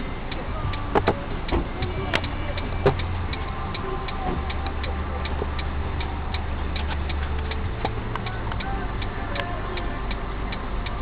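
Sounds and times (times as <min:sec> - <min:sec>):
engine and road rumble: 0:00.0 - 0:11.0
turn signal ticking: 0:00.0 - 0:11.0.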